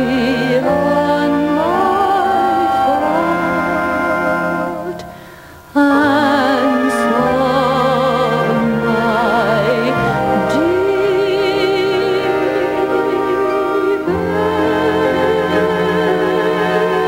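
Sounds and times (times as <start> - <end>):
instrumental accompaniment: 0.0 - 17.0
woman singing with vibrato: 0.0 - 17.0.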